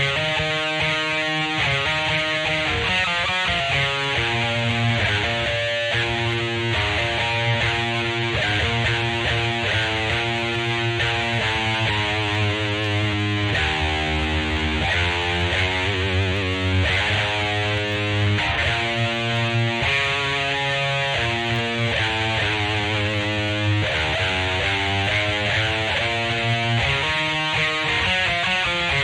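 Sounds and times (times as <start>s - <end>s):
distorted electric guitar chords: 0.0s - 29.0s.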